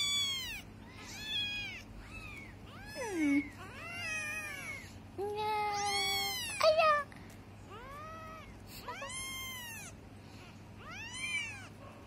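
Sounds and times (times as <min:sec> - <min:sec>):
kittens meowing: 0:00.0 - 0:05.0, 0:05.6 - 0:06.9, 0:07.7 - 0:10.0, 0:10.8 - 0:11.8.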